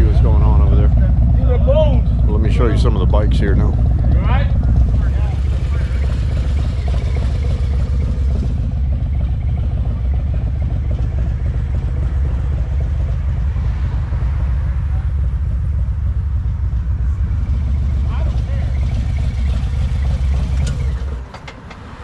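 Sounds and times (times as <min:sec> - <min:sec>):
motorcycle engines rumbling: 0:00.0 - 0:22.0.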